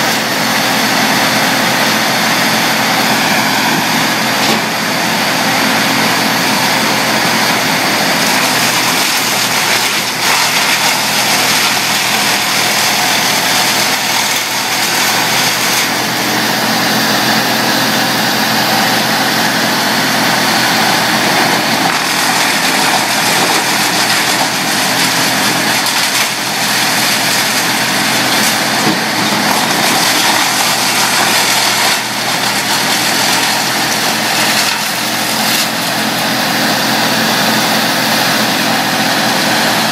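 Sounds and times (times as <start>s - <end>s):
wood chipper chewing branches: 0.0s - 39.9s.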